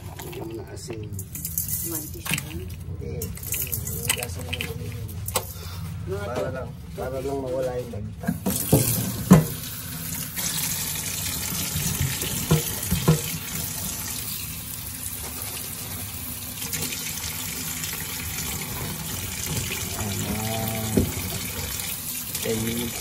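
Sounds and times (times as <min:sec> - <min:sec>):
tap water running into metal bowl: 0:00.0 - 0:05.5, 0:08.3 - 0:23.0.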